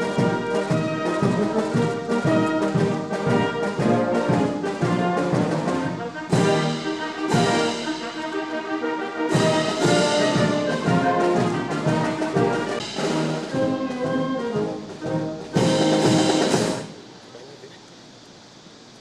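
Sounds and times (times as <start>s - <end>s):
brass band playing held chords: 0.0s - 17.2s.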